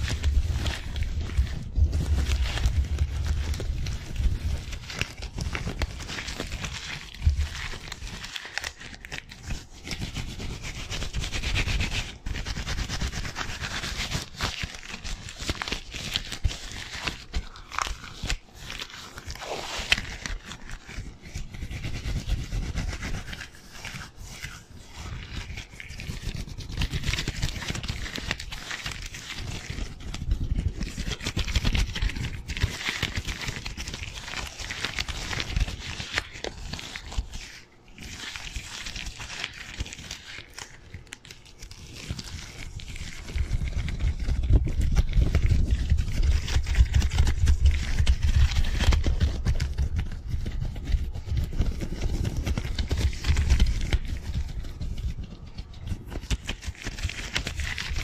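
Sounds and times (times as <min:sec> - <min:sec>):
disposable gloves rustling: 0:00.0 - 0:58.0.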